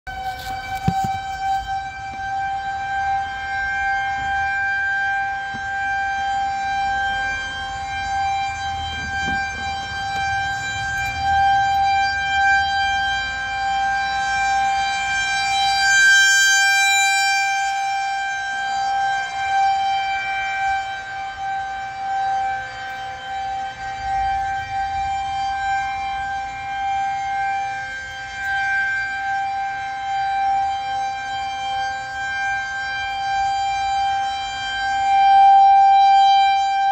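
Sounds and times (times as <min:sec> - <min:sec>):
warning siren wailing: 0:00.0 - 0:36.9.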